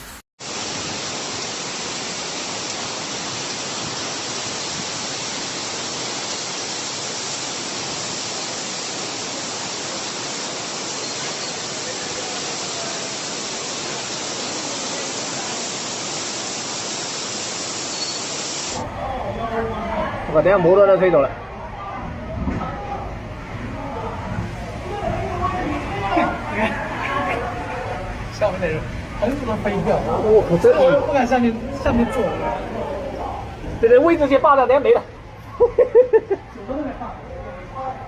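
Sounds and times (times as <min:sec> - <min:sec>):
torrential rain: 0:00.0 - 0:38.0.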